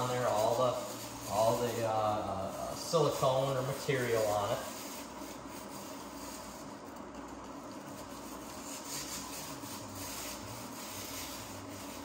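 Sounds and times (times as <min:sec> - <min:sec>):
brush scrubbing tire rubber: 0:00.0 - 0:12.0
steady hiss: 0:00.0 - 0:12.0.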